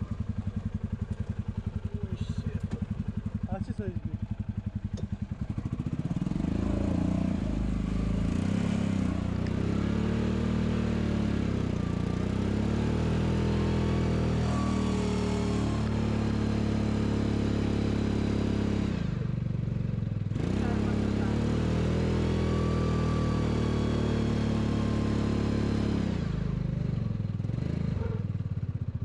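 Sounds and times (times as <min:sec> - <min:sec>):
utility vehicle engine: 0:00.0 - 0:29.0.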